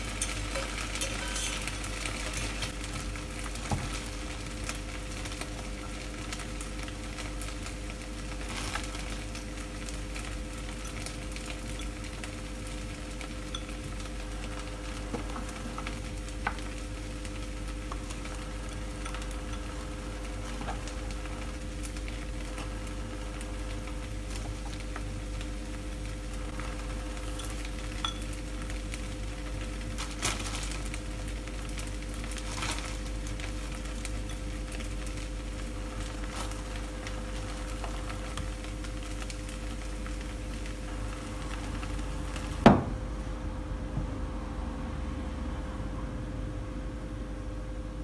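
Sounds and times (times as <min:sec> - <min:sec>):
food sizzling in a pan: 0:00.0 - 0:43.0.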